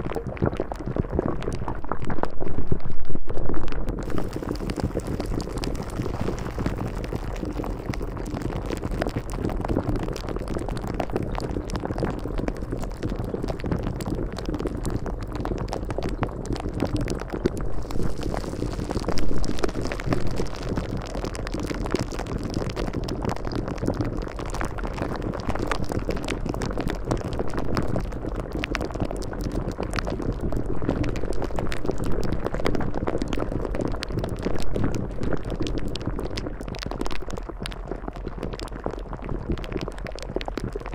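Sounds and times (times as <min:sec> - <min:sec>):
dense water-like noise: 0:00.0 - 0:40.9.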